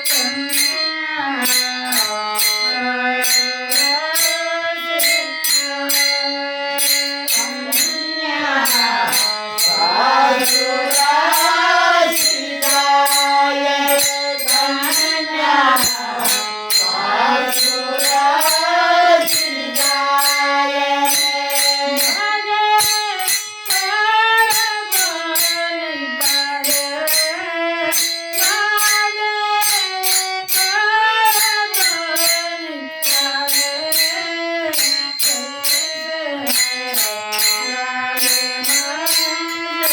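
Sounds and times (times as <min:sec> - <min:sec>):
jingling percussion beat: 0:00.0 - 0:39.9.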